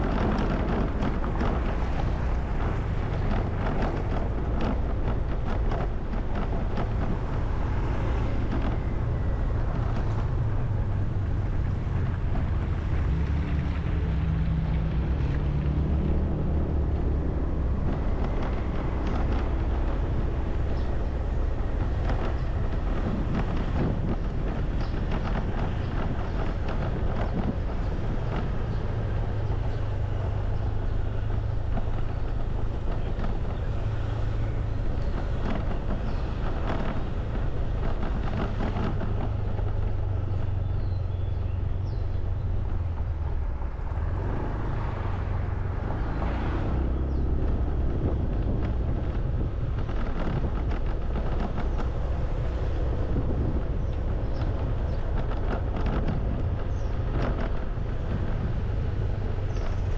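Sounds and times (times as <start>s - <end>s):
passing traffic: 0.0s - 59.9s
vehicle engine humming: 0.0s - 59.9s
wind on microphone: 0.0s - 59.9s.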